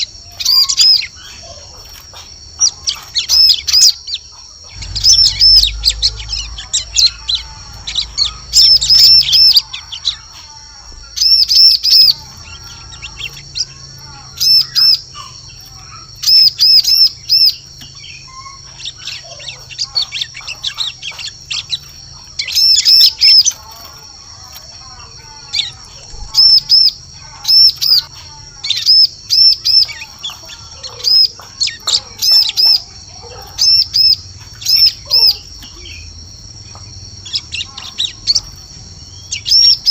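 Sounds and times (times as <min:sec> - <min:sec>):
bird sharp high chirps: 0:00.0 - 0:39.9
soft twittering: 0:00.0 - 0:39.9.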